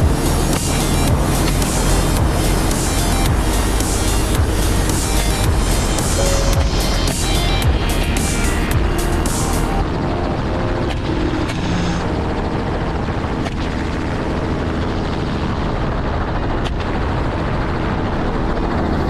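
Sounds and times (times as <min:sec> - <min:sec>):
helicopter engine and rotor: 0:00.0 - 0:19.0.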